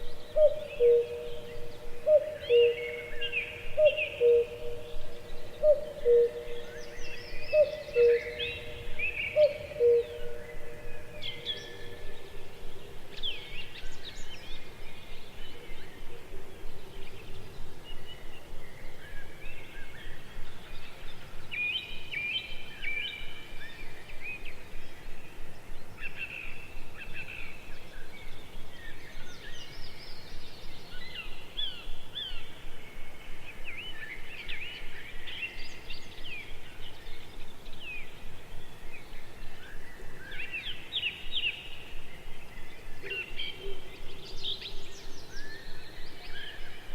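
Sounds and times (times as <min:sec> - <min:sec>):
birds chirping and twittering: 0:00.0 - 0:46.9
soft outdoor hiss: 0:00.0 - 0:46.9.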